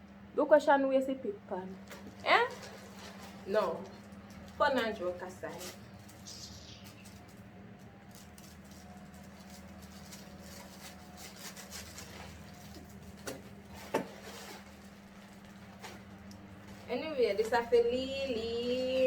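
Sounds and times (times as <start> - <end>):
steady low hum: 0.0 - 19.0
packaging rustling and crinkling: 1.8 - 19.0.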